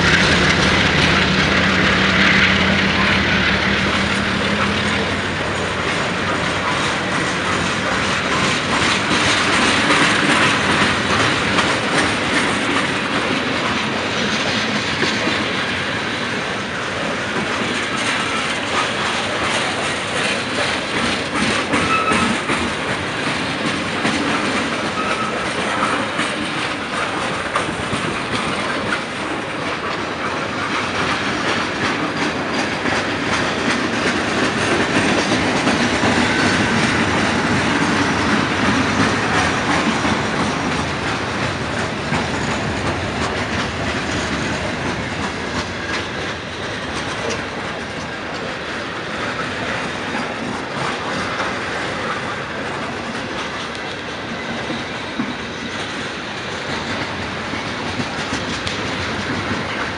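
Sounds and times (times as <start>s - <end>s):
train wheels clattering over track: 0.0s - 59.9s.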